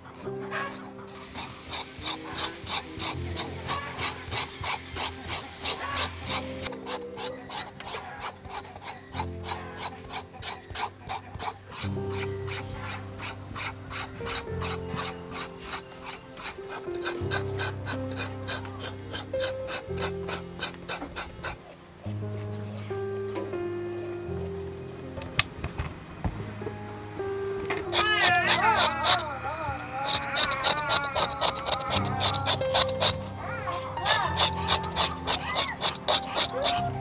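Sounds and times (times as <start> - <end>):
knife scraping gourd skin: 0.0 - 24.6, 27.8 - 29.3, 30.0 - 37.0.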